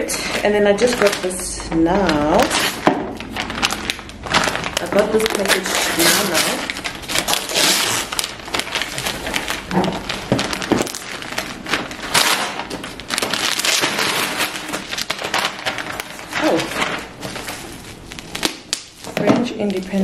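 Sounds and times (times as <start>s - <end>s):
paper packaging rustling: 0.2s - 20.0s.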